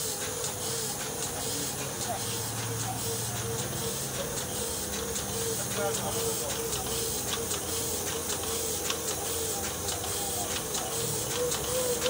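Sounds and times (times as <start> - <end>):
printing press running: 0.0 - 12.0.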